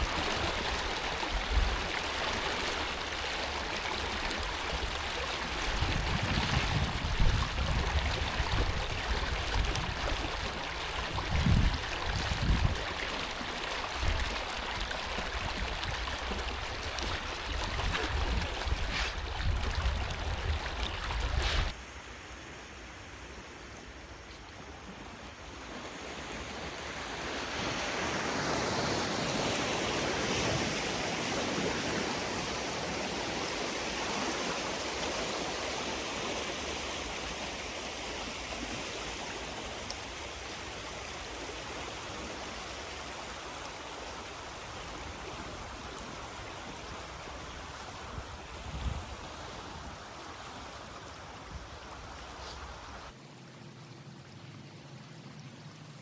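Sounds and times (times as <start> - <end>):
water rushing through a dam: 0.0 - 21.8, 25.3 - 53.2.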